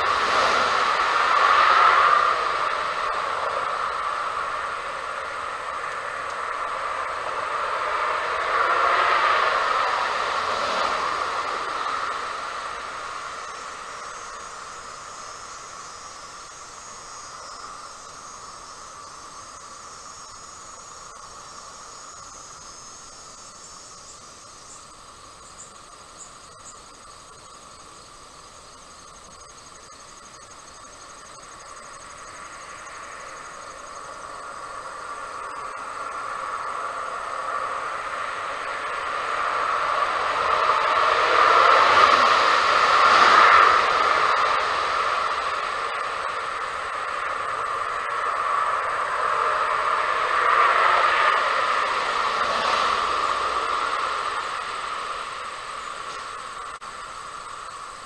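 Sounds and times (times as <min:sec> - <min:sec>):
faint insect chirring: 0:00.0 - 0:58.0
steady rushing noise: 0:00.0 - 0:58.0.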